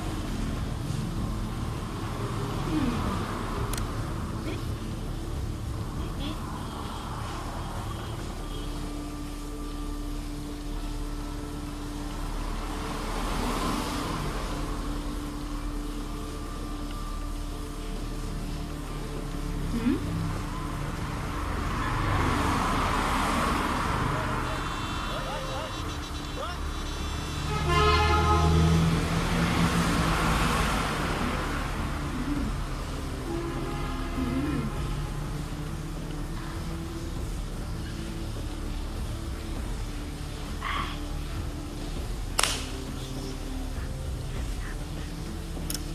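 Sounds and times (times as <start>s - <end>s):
rushing noise: 0.0s - 45.7s
vehicle engine rumble: 0.0s - 45.9s.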